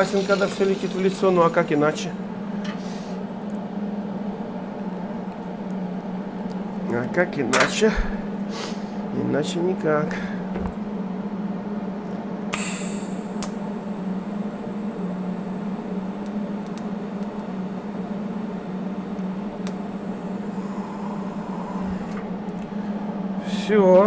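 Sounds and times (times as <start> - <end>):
workshop equipment humming: 0.0 - 24.0.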